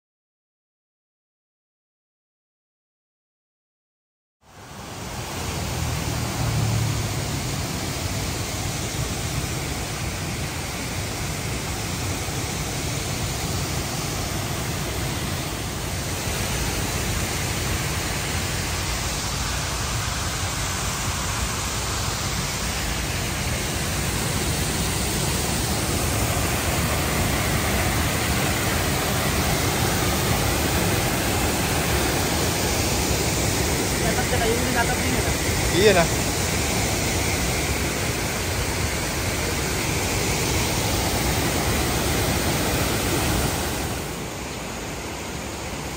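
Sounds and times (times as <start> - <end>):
waterfall rushing: 4.5 - 45.9.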